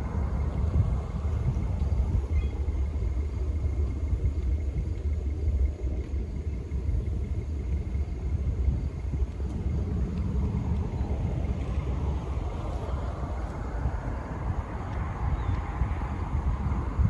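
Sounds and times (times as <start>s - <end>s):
car tyre and road noise: 0.0s - 17.0s
wind buffeting the microphone: 0.0s - 17.0s.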